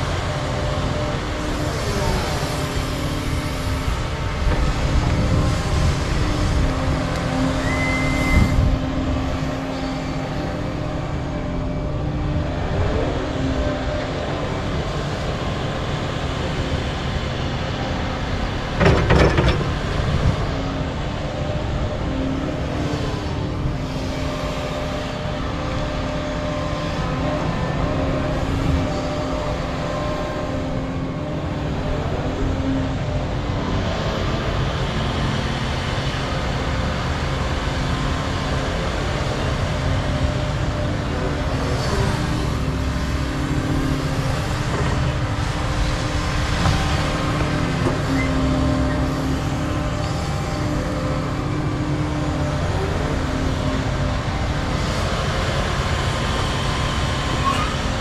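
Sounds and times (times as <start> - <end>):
excavator diesel engines working: 0.0 - 58.0.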